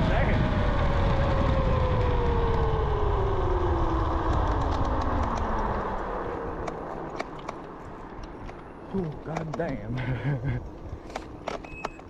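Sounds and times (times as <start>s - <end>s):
electric scooter motor whine: 0.0s - 12.0s
wind: 0.0s - 12.0s.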